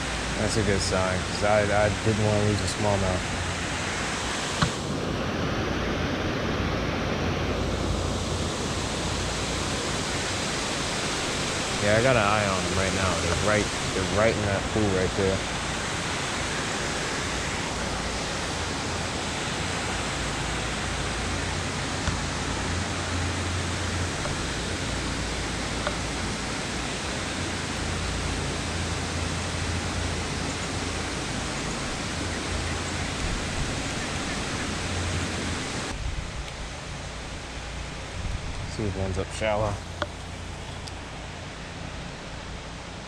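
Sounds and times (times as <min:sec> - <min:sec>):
river water rushing: 0:00.0 - 0:36.0, 0:36.6 - 0:43.0.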